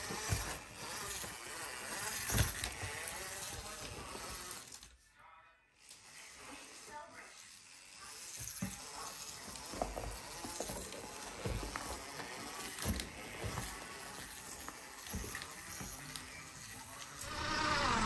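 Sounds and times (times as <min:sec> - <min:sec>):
toy car electric drivetrain: 0:00.0 - 0:05.0, 0:05.8 - 0:18.0.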